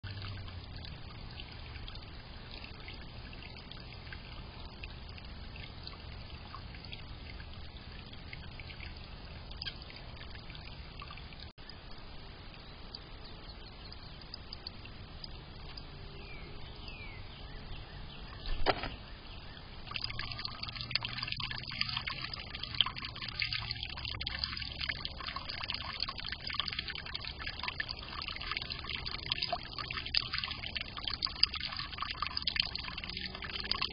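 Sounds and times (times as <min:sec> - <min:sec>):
water trickling in a fountain: 0:00.0 - 0:33.9.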